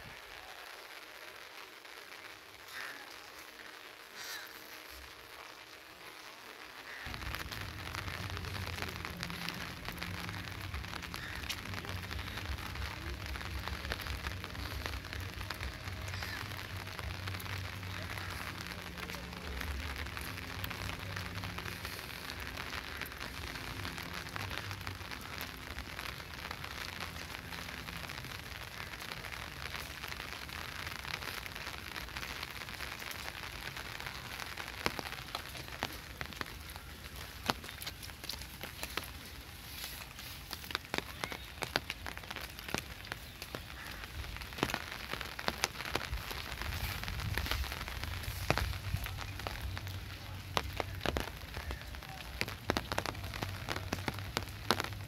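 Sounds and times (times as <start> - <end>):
rain on stone paving: 0.0 - 55.0.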